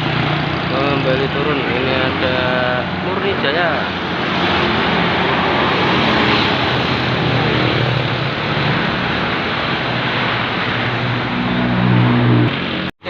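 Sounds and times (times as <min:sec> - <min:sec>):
bus passing by: 0:00.0 - 0:12.9.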